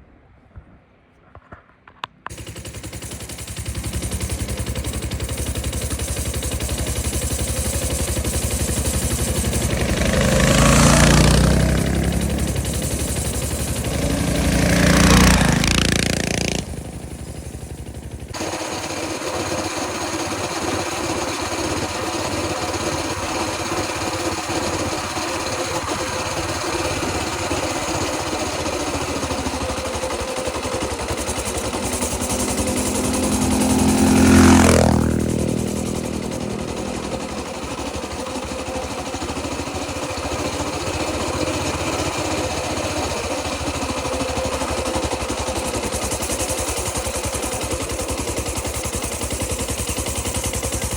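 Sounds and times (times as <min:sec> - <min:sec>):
minibike passing by: 0:02.3 - 0:50.9
small engine drone: 0:02.3 - 0:50.9.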